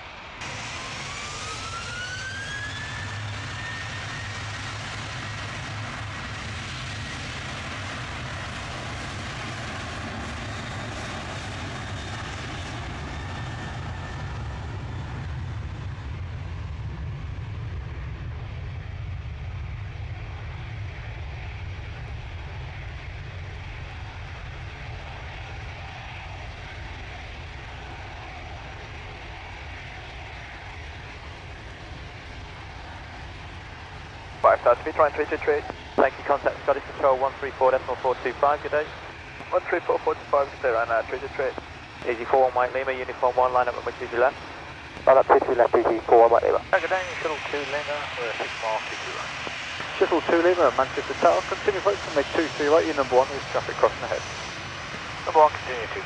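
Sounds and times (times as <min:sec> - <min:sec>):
jet engines deep roar: 0:00.0 - 0:56.0
jet engines high whine: 0:00.0 - 0:56.0.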